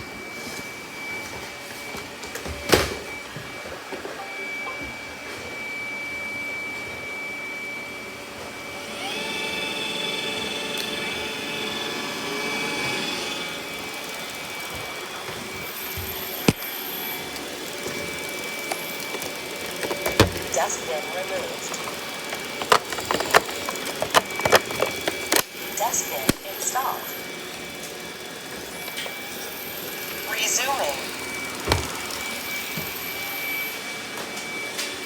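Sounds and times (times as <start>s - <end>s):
robot vacuum motor whine: 0.0s - 35.0s.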